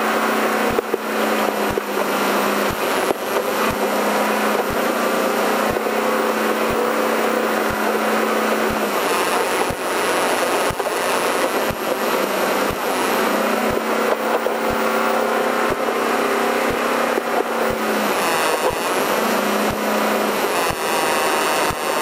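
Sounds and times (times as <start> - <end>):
vehicle engine running: 0.0 - 20.4
road and wind noise: 0.0 - 22.0.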